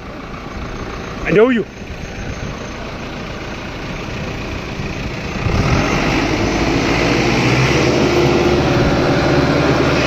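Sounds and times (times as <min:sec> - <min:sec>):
heavy tractor engine running: 0:00.0 - 0:10.0.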